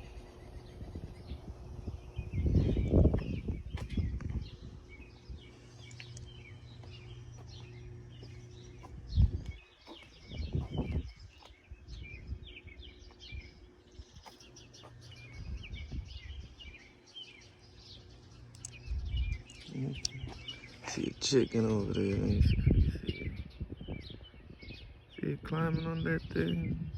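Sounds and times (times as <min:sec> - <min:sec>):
low background hum: 0:00.0 - 0:26.9
small birds chirping: 0:00.0 - 0:26.9.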